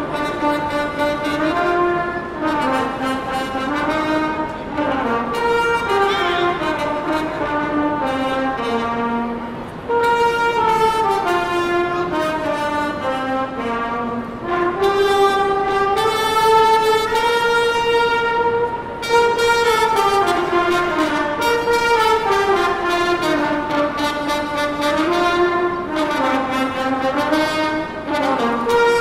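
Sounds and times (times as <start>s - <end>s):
trumpet ensemble in harmony: 0.0s - 29.0s.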